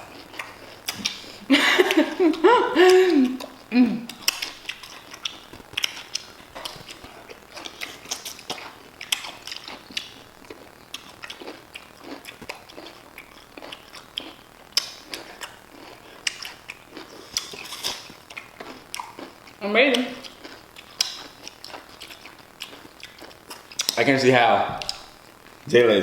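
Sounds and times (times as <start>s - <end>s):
crunching and chewing pickles: 0.0s - 1.5s, 3.3s - 25.2s.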